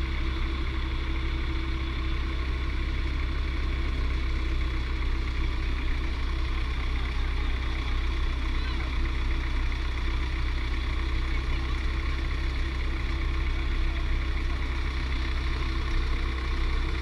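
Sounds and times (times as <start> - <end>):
heavy diesel engine idling: 0.0 - 17.0.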